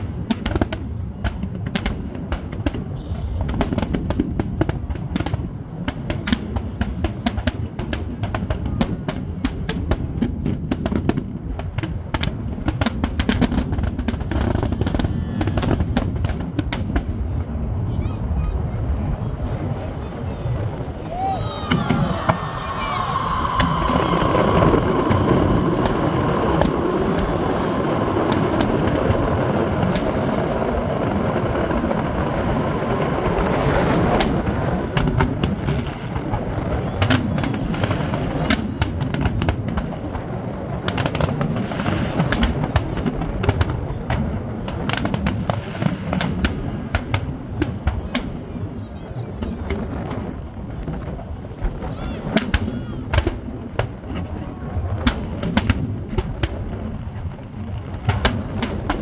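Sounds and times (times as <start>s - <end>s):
fireworks bangs and crackles: 0.0s - 59.0s
fireworks booming: 0.0s - 59.0s.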